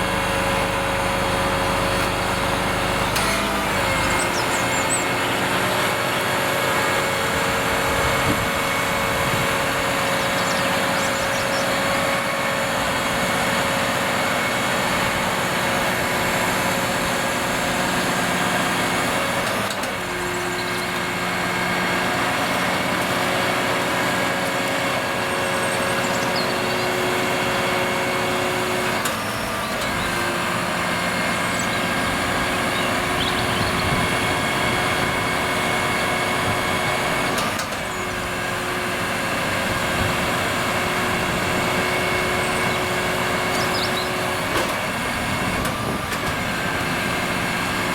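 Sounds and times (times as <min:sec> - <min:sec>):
crane hydraulics hum and whine: 0:00.0 - 0:47.9
truck engine running: 0:00.0 - 0:47.9.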